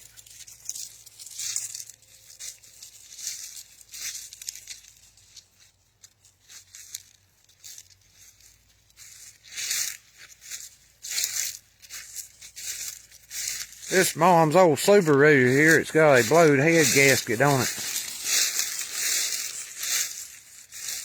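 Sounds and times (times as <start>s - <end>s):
rustling and crackling: 0.0s - 21.0s.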